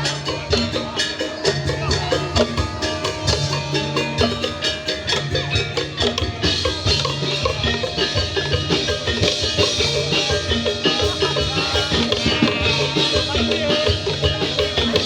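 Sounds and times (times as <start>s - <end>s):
bamboo percussion knocking: 0.0s - 15.0s.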